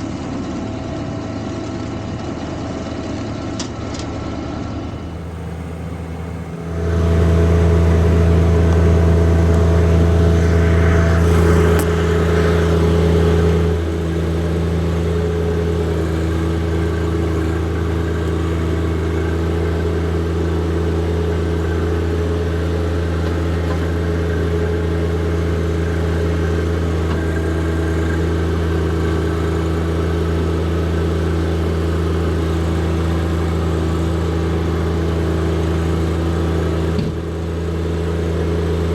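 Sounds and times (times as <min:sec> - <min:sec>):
tractor diesel engine running: 0:04.3 - 0:38.9.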